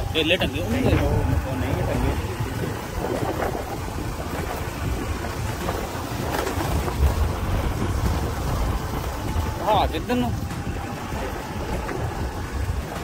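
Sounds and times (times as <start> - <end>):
scooter motor rumble: 0.0 - 13.0
wind buffeting microphone: 0.0 - 13.0.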